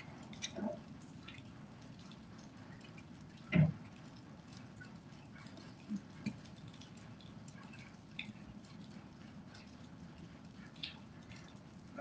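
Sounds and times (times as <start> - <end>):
rain pattering on wet pavement: 0.0 - 12.0.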